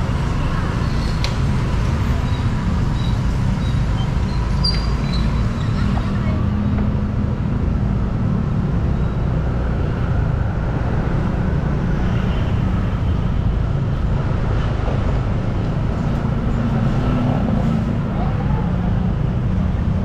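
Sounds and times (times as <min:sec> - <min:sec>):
vehicle engines rumbling: 0:00.0 - 0:20.0.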